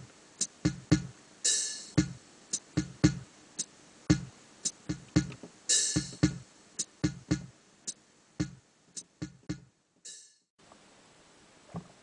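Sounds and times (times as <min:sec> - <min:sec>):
drum machine and synthesizer music: 0:00.0 - 0:10.4.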